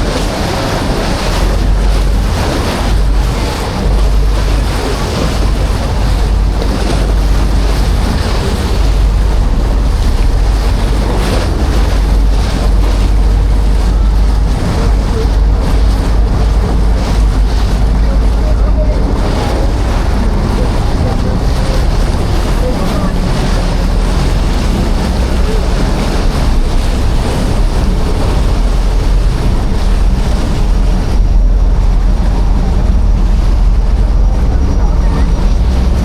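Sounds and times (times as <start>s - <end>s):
ferry engine hum: 0.0s - 36.0s
sea water rushing along hull: 0.0s - 36.0s
wind buffeting microphone: 0.0s - 36.0s.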